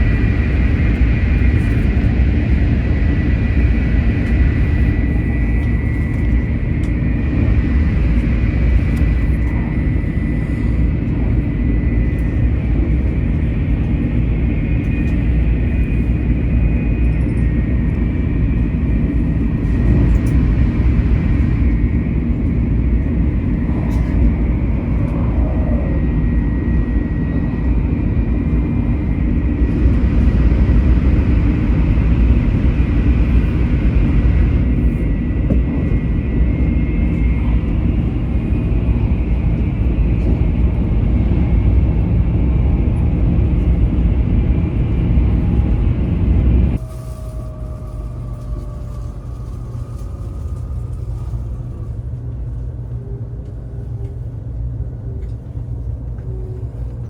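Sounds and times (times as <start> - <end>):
high speed train rumbling: 0.0 - 57.0.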